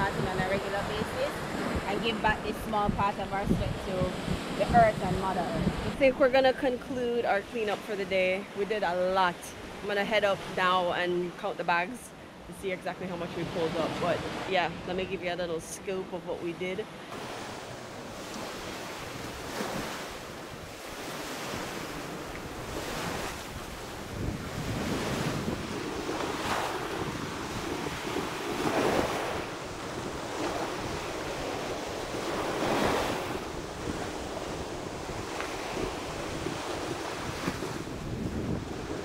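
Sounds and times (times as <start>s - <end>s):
wind buffeting microphone: 0.0s - 11.1s, 12.6s - 39.0s
surf washing on a beach: 0.0s - 39.0s.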